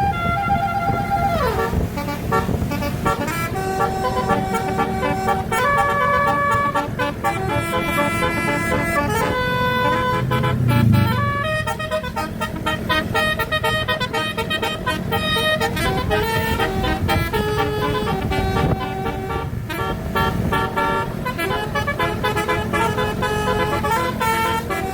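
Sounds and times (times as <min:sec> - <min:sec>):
multi-tone bus horn melody: 0:00.0 - 0:24.9.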